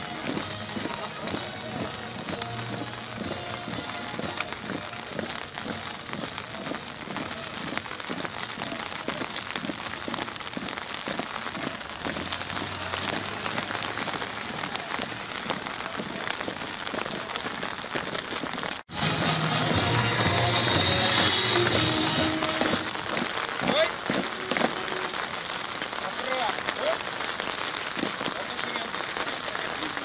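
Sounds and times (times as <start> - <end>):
marching boots on wet pavement: 0.0 - 30.0
rain hiss: 0.0 - 30.0.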